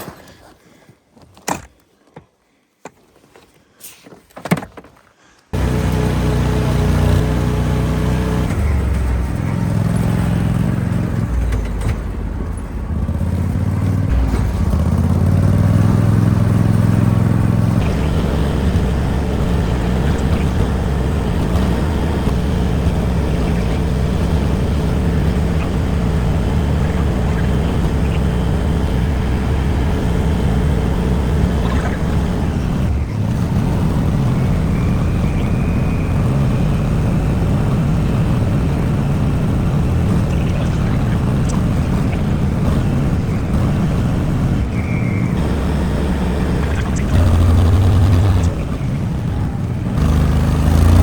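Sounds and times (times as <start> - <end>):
atv engine running: 5.6 - 51.0.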